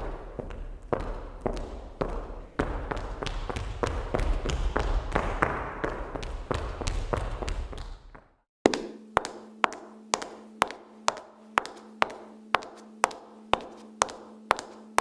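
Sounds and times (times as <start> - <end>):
high heels clicking on hard floor: 0.0 - 15.0.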